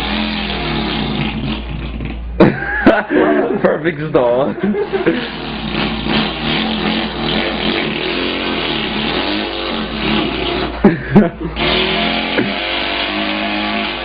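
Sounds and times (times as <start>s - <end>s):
man imitating engine with mouth: 0.0s - 3.5s, 4.6s - 14.0s.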